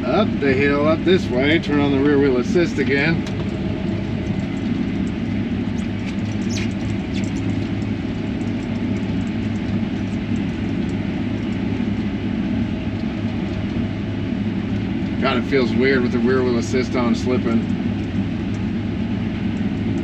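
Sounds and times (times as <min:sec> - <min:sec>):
combine harvester drone: 0:00.0 - 0:20.0.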